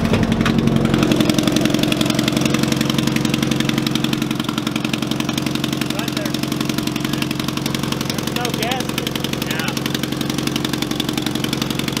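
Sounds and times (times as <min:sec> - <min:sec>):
car engine idling: 0:00.0 - 0:12.0
exhaust leak fluttering: 0:00.0 - 0:12.0.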